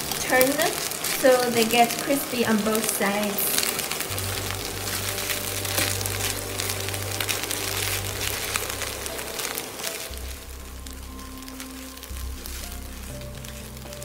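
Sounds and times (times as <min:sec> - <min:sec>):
noodles sizzling in a pan: 0:00.0 - 0:14.0.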